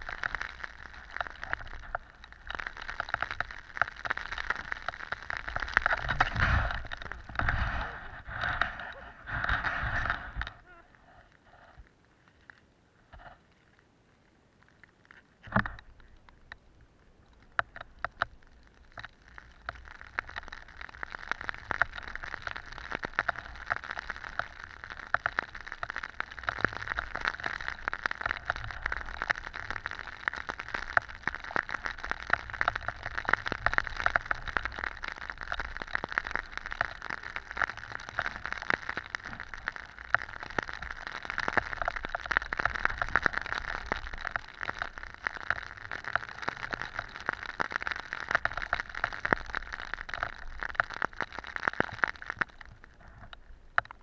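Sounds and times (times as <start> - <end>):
snow pattering on camera: 0.0 - 13.7, 17.3 - 54.0.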